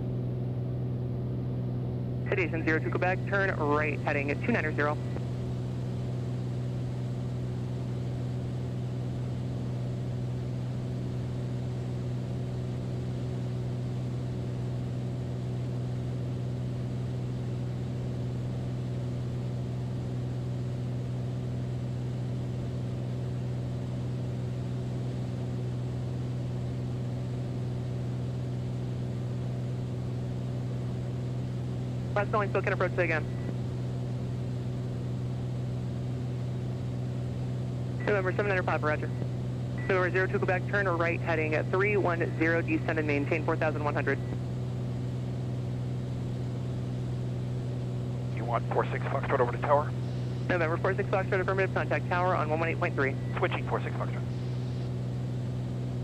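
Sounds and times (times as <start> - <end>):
airplane engine droning in cabin: 0.0 - 56.0.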